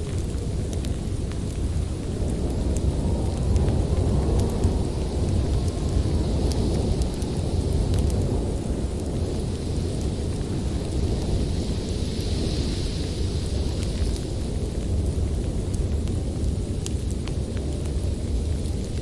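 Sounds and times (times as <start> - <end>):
storm wind rumbling: 0.0 - 19.0
wood fire crackling: 0.0 - 19.0.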